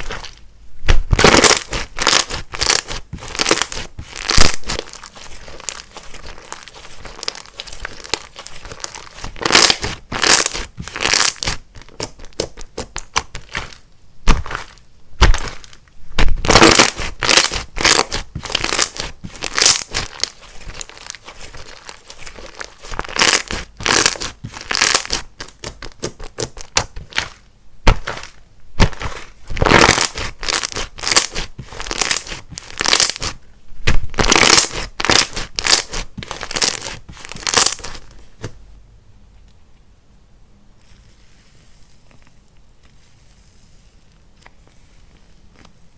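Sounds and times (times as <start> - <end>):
hands squeezing sticky slime: 0.0 - 38.1.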